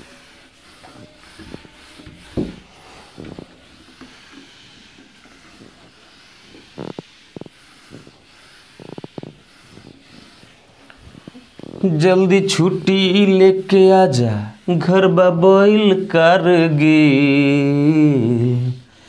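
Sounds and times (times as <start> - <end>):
duster rubbing on whiteboard: 0.0 - 19.0.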